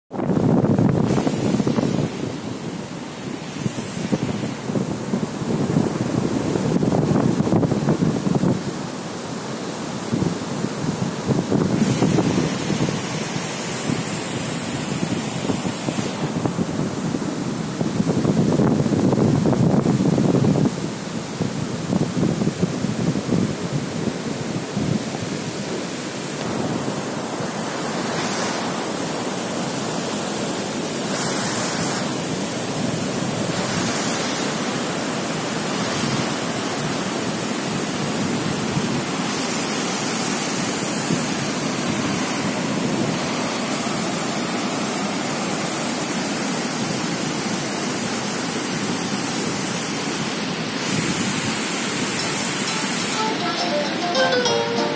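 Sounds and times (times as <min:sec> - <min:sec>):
water rushing over rapids: 0:00.1 - 0:54.9.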